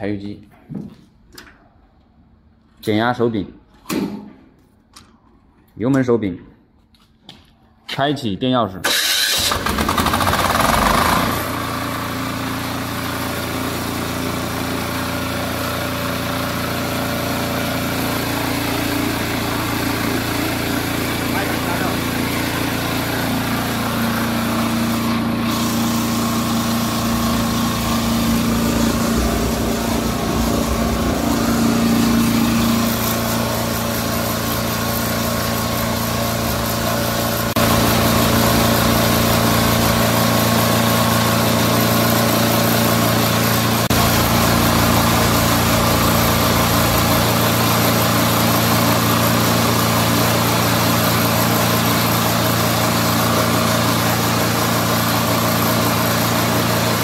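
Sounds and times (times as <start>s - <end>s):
diesel engine running: 9.0s - 57.0s.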